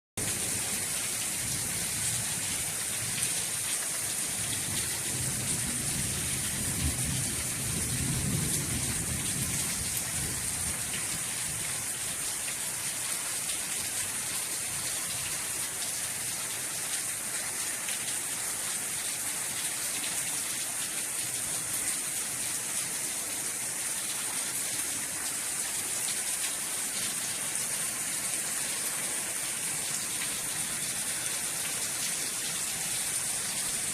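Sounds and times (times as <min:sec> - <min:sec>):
rain pattering on a patio: 0:00.2 - 0:33.9.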